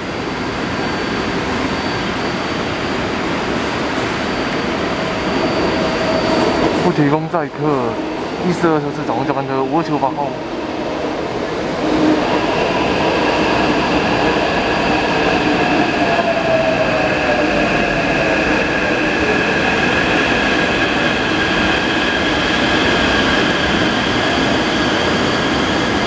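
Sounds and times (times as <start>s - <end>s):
train rail noise: 0.0s - 26.0s
high-pitched whining tones: 0.4s - 26.0s.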